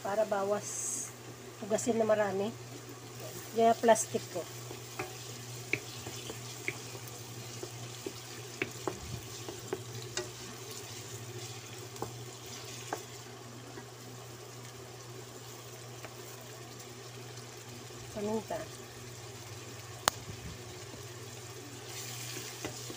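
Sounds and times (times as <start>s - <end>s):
food sizzling in wok: 0.0s - 22.9s.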